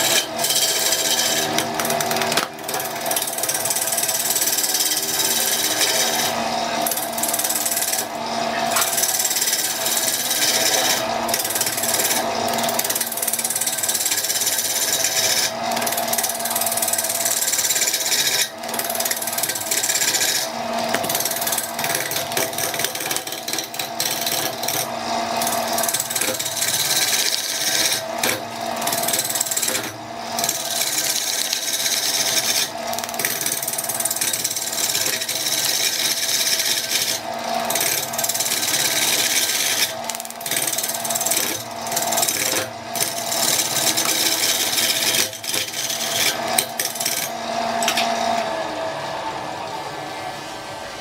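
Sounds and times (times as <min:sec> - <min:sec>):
power tool cutting wood: 0:00.0 - 0:49.0.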